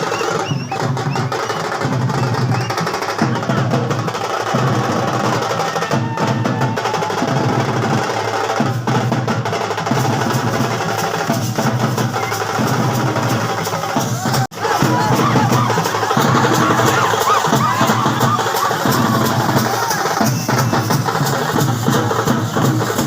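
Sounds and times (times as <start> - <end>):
music with fast drumming: 0.0 - 23.0.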